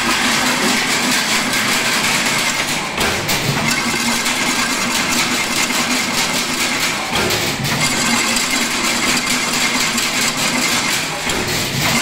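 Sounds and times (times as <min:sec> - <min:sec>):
fencing machine metallic clatter: 0:00.1 - 0:12.0.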